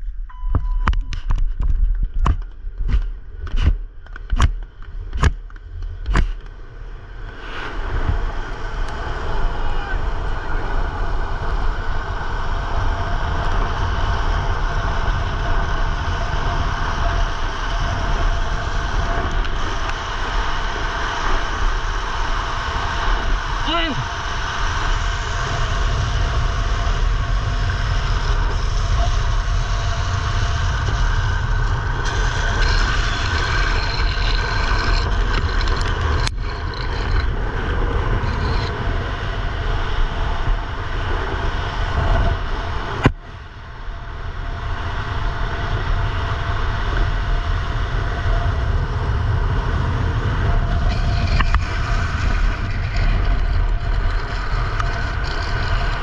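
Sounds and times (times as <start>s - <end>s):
skateboard wheels rolling on asphalt: 0.0s - 56.0s
wind rushing over microphone: 0.0s - 56.0s.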